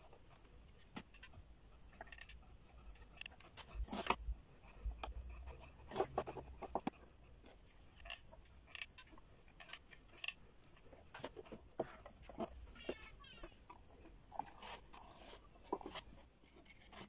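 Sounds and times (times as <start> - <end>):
wooden sticks clicking and scraping: 1.9 - 17.0.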